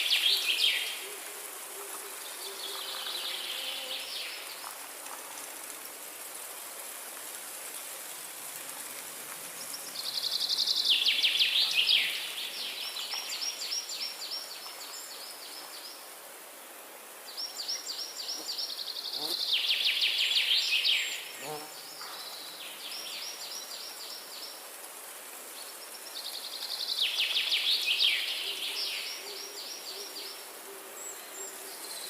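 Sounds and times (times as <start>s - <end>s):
soft forest ambience hiss: 0.0s - 32.0s.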